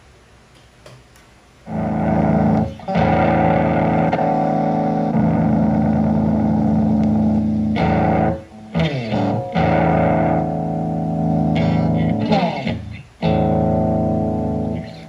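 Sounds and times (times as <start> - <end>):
electric guitar chords ringing: 1.7 - 15.0
guitar slide down in pitch: 1.7 - 15.0.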